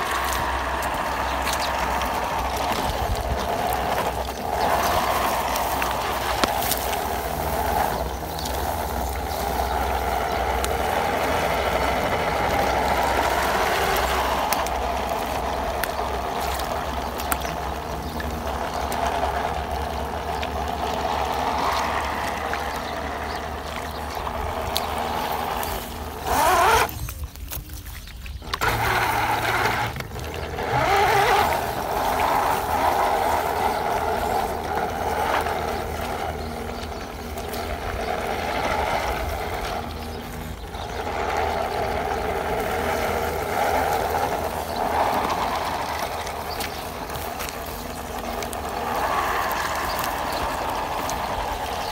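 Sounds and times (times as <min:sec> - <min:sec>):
electric motor and gears whining: 0:00.0 - 0:51.9
water splashing around tyres: 0:00.0 - 0:51.9.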